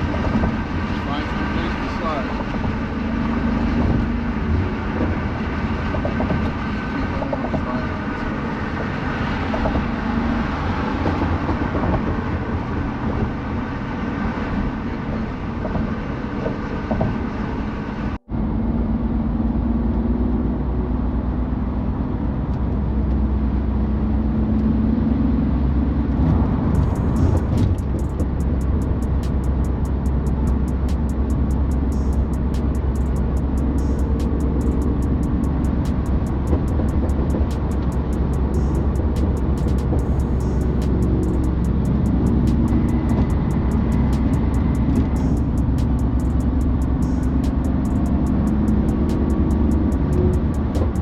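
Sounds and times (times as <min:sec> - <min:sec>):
car engine running from cabin: 0:00.0 - 0:51.0
road and tyre noise: 0:00.0 - 0:51.0.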